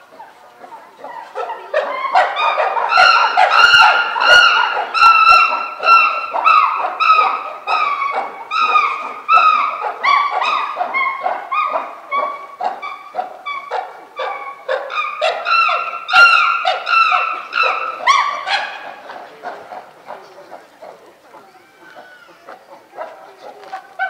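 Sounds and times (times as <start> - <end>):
chimpanzee calling: 0.0 - 24.0.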